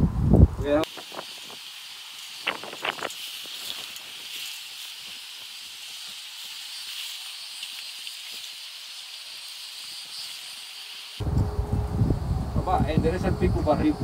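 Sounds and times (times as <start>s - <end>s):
insect chorus hissing: 0.6s - 14.0s.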